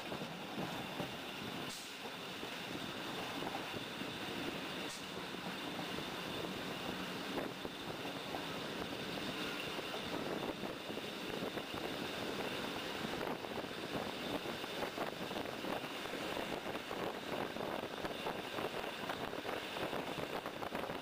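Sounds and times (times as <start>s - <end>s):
train wheels rumbling on rails: 0.0s - 21.0s
wind noise: 0.0s - 21.0s.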